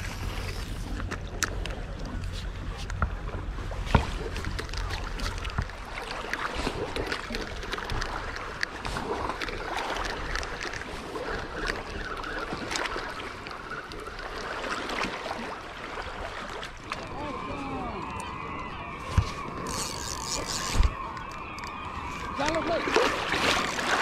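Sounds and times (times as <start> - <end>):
water moving: 0.0 - 24.0
wind: 0.0 - 24.0.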